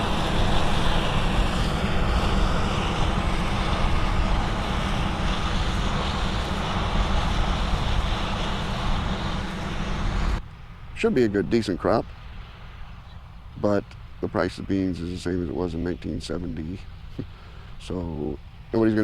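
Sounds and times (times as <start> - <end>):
combine harvester running: 0.0 - 19.0
wind buffeting microphone: 0.0 - 19.0.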